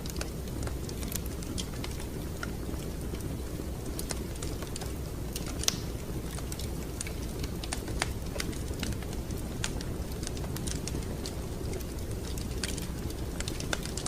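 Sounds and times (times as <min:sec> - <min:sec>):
low rumble of burning fire: 0:00.0 - 0:14.0
wood fire crackling: 0:00.0 - 0:14.0.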